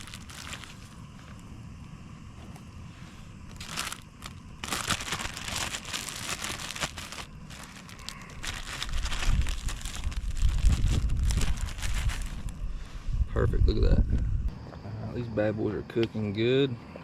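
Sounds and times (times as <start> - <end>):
low rumble: 0.0 - 14.6.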